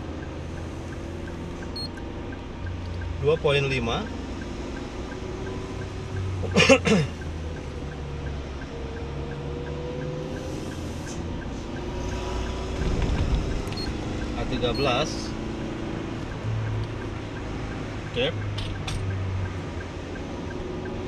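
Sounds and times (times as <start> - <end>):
car engine and tyre hum: 0.0 - 21.0.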